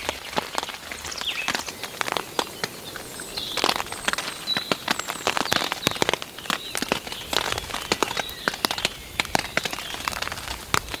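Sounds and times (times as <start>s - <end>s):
drops tapping on fabric: 0.0s - 11.0s
steady rainfall hiss: 0.0s - 11.0s.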